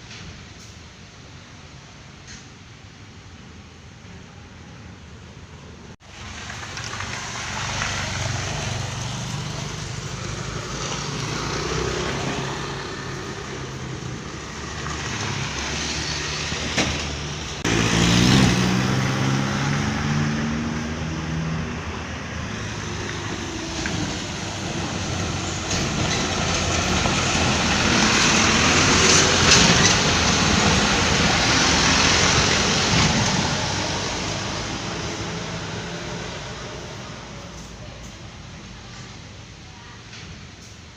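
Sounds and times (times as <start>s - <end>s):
road and traffic noise: 0.0s - 40.9s
bus engine running: 5.9s - 39.6s.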